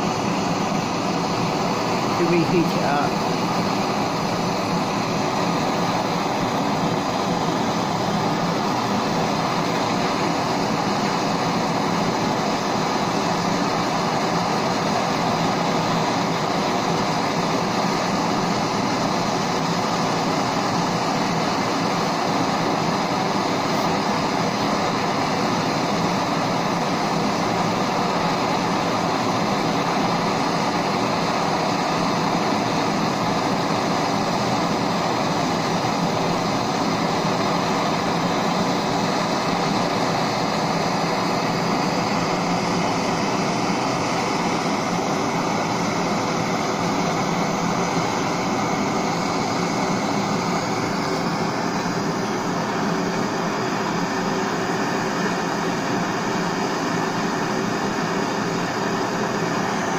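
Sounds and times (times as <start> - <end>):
blowtorch hissing: 0.0 - 59.9.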